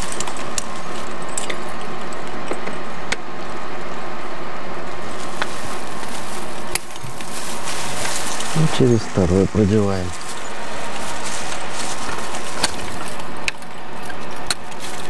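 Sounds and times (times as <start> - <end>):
ventilation fans humming: 0.0 - 15.0.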